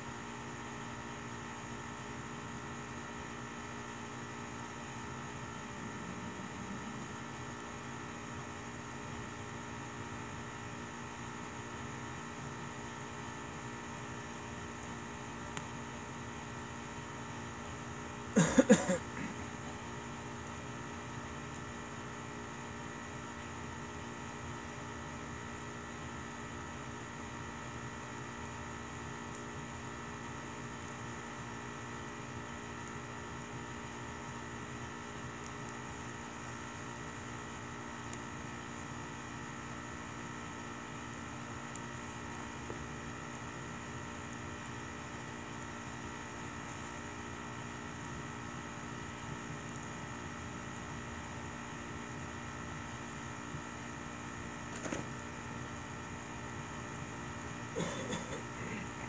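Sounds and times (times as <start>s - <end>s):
steady hum and hiss: 0.0s - 59.0s.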